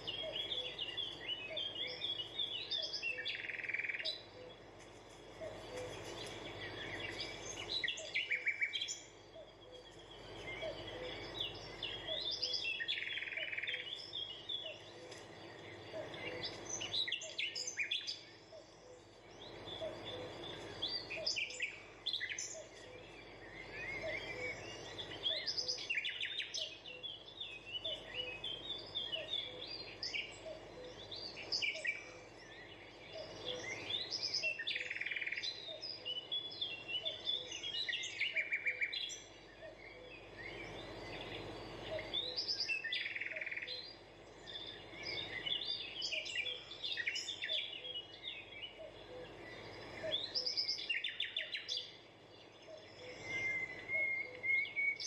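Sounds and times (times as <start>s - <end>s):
birds chirping: 0.0s - 55.0s
faint steady hiss: 0.0s - 55.0s.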